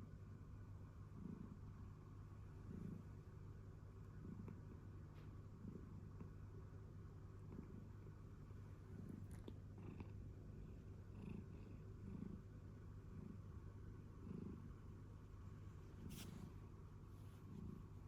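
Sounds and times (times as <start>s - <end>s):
cat purring: 0.8s - 18.0s.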